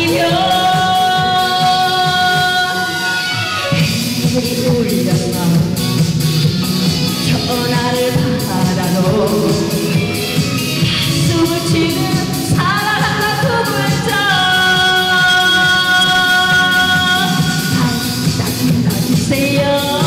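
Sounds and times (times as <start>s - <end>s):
woman singing: 0.0s - 6.0s, 7.1s - 20.0s
band backing track with beat: 0.0s - 20.0s.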